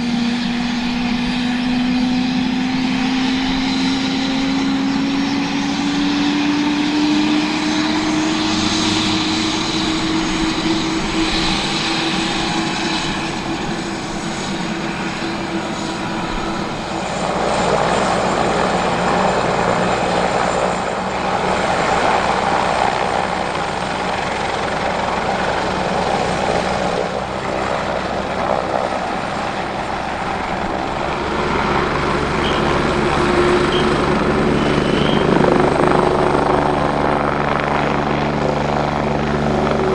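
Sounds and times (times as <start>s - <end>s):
helicopter engine and rotor rush: 0.0s - 39.9s
helicopter turbine whine rising: 0.0s - 39.9s
low steady drone: 0.0s - 39.9s.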